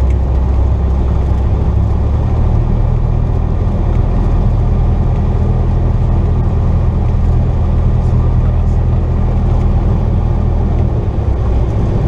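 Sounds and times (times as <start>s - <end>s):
light aircraft engine and propeller: 0.0s - 12.0s.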